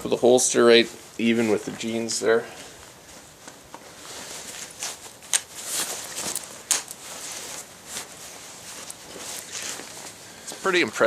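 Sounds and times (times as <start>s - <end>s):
footsteps crunching softly: 0.0s - 11.0s.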